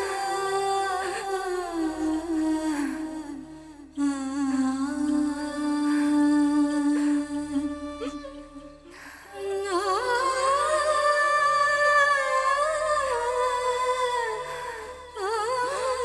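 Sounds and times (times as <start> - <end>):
wordless vocal melody with vibrato: 0.0 - 16.0.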